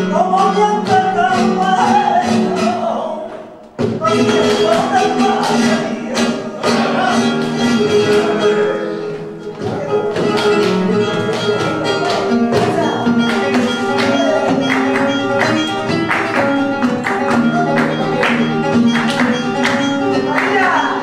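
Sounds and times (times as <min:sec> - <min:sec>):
flamenco guitar playing: 0:00.0 - 0:21.0
rhythmic handclaps: 0:00.3 - 0:02.4, 0:03.4 - 0:21.0.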